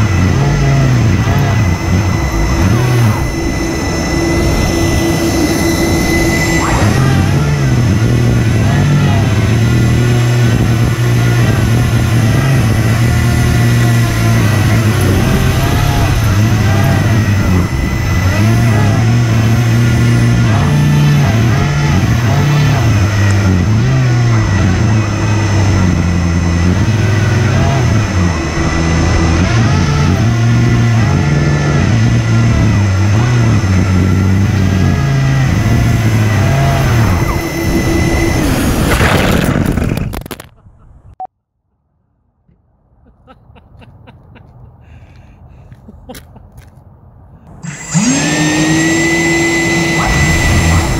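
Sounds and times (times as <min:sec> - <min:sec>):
fans whining and humming: 0:00.0 - 0:41.1, 0:47.5 - 0:50.9.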